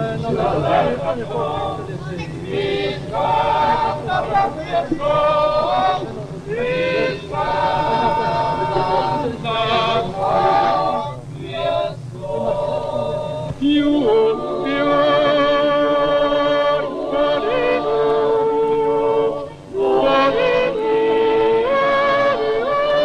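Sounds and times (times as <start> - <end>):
choir singing long notes: 0.0 - 23.0.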